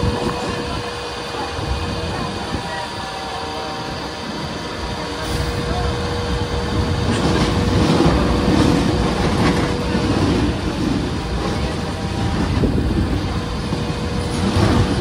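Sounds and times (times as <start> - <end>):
train rumbling and rattling: 0.0 - 15.0.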